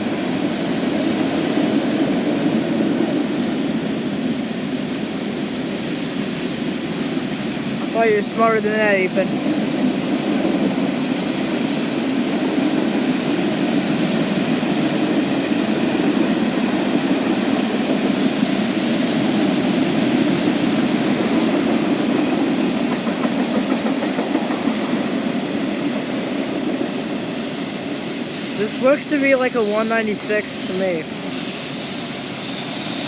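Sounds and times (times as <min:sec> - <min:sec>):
freight train wheels on rail: 0:00.0 - 0:33.0.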